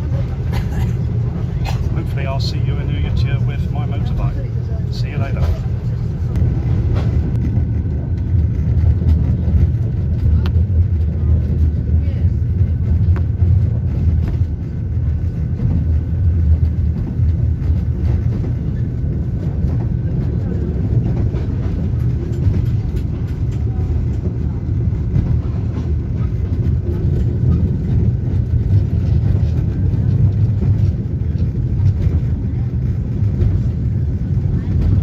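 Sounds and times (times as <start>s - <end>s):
train rumbling on track: 0.0s - 35.0s.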